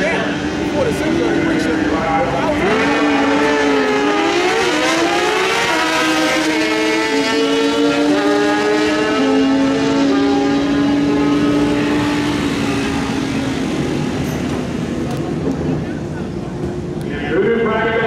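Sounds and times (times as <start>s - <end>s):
drag racing motorcycles accelerating: 0.0s - 17.1s.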